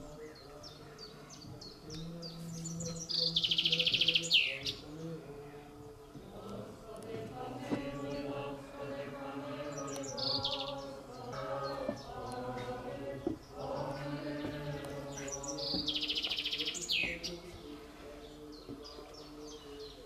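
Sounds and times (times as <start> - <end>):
birds chirping in trills: 0.0 - 20.0
voices singing a slow chant: 0.0 - 20.0.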